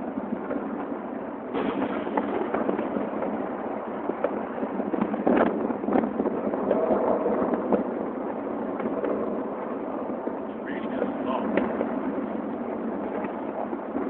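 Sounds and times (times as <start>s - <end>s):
fireworks crackling and banging: 0.0s - 14.0s.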